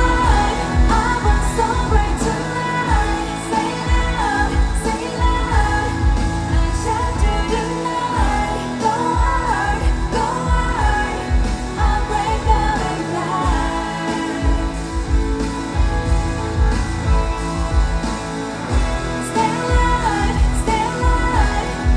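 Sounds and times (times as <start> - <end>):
heavy pulsing bass beat: 0.0 - 21.9
woman singing pop song: 0.0 - 21.9.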